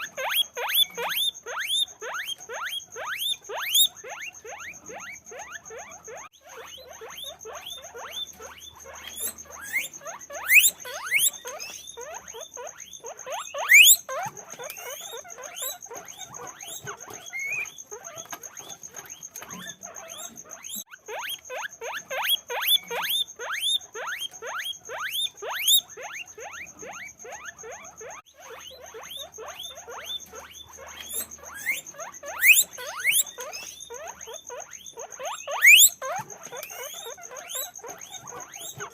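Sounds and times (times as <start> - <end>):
guinea pigs squeaking: 0.0 - 38.9.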